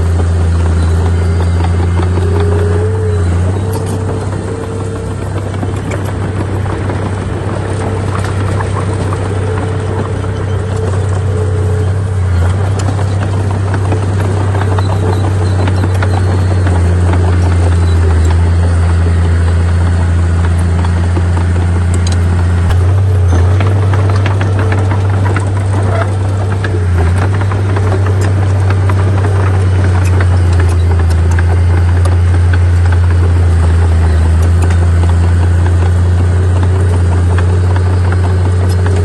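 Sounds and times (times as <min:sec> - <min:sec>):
heavy diesel engine humming: 0:00.0 - 0:39.0.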